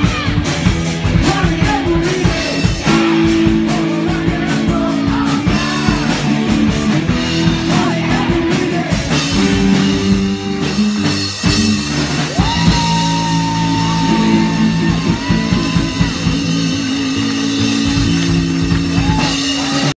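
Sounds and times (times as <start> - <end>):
drum kit: 0.0 - 20.0
electric guitar: 0.0 - 20.0
live rock band playing: 0.0 - 20.0.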